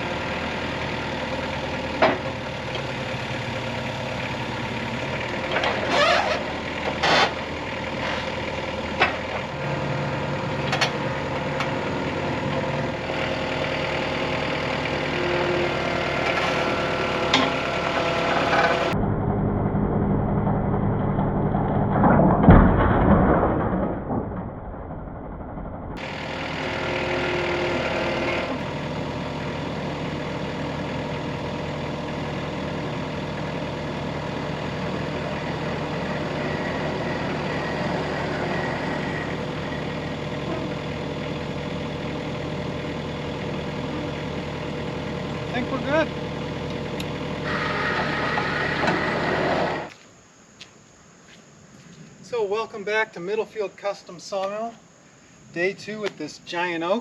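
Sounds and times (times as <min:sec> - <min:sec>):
engine idling: 0:00.0 - 0:22.8, 0:24.4 - 0:50.9.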